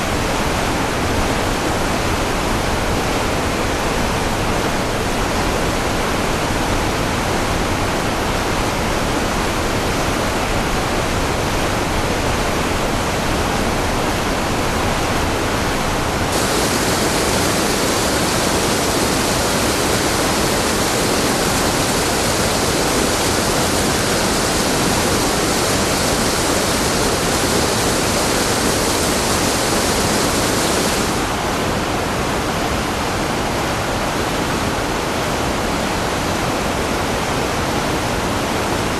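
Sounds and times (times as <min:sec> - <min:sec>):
waterfall rushing: 0:00.0 - 0:35.4.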